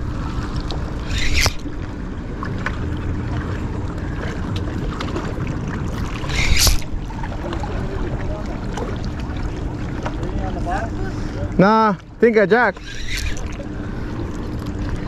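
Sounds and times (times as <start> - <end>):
faint steady hum: 0.0 - 15.0
small waves lapping: 0.0 - 15.0.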